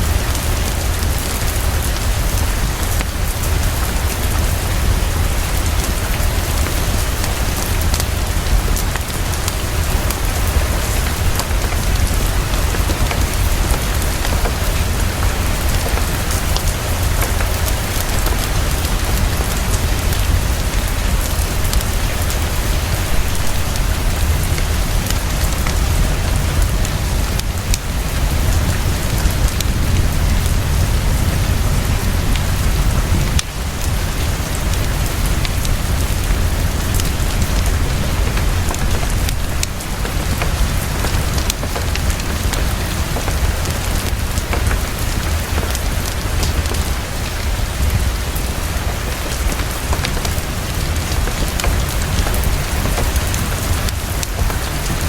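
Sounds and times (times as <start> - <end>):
fireplace crackle: 0.0 - 55.0
heavy rainfall: 0.0 - 55.0.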